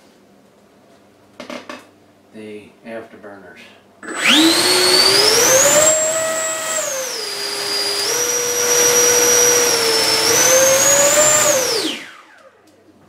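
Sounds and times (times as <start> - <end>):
electric ducted fan whine: 0.0 - 13.0.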